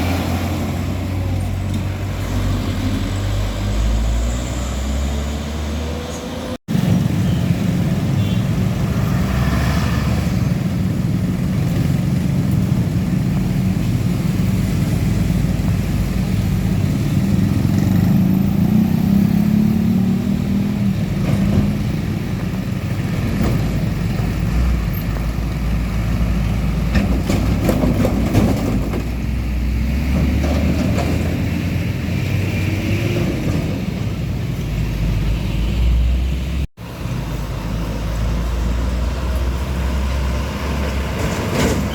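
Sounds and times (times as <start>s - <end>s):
diesel trucks passing: 0.0s - 41.9s.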